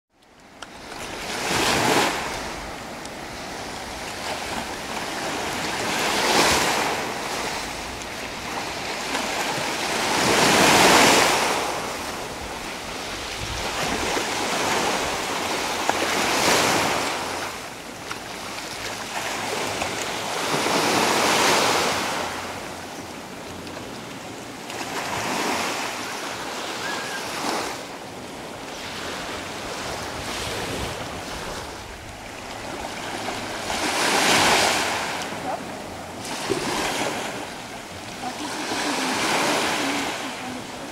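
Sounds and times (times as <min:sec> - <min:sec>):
sea waves washing onto shore: 0:00.2 - 0:40.9.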